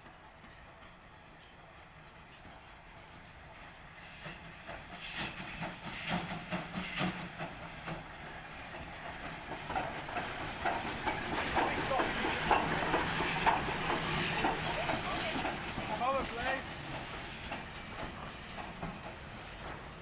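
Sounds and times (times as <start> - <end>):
steam hissing: 0.0 - 20.0
steam locomotive passing: 0.0 - 20.0.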